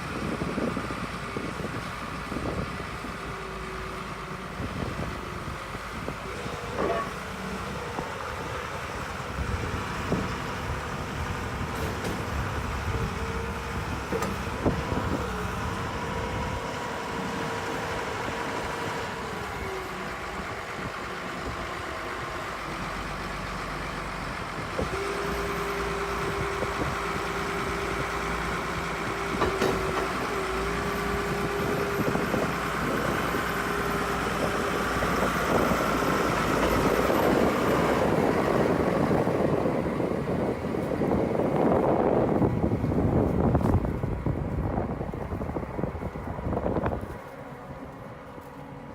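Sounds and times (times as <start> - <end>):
excavator whine: 0.0 - 48.9.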